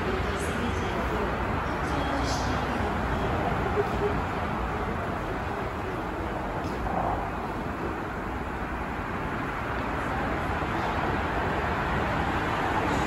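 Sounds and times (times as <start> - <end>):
railway station ambient rumble: 0.0 - 13.0.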